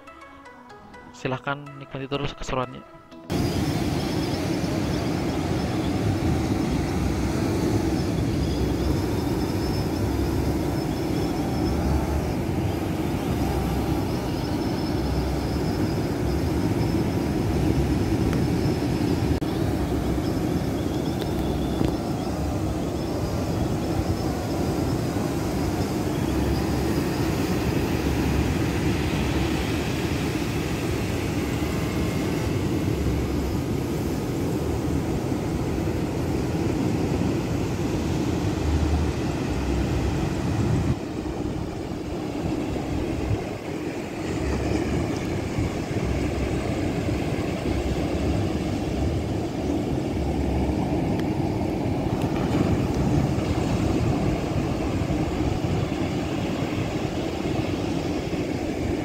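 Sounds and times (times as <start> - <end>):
drone propellers whining: 3.3 - 58.9
wind buffeting microphone: 3.3 - 59.0.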